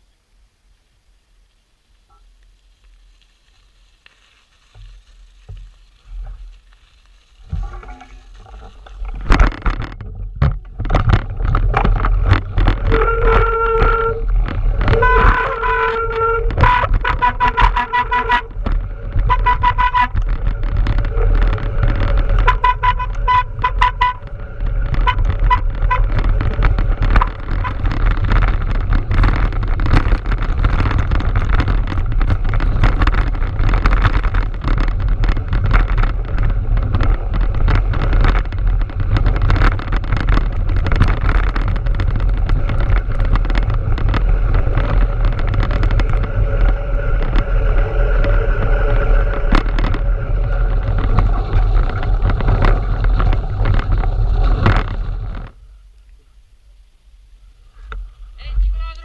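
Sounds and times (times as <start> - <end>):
bike rumbling and rattling on snow: 0.0 - 59.0.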